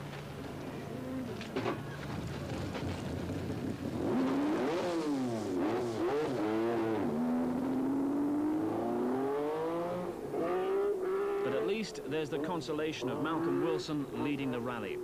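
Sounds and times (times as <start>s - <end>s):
rally car engine revving: 2.8s - 15.0s.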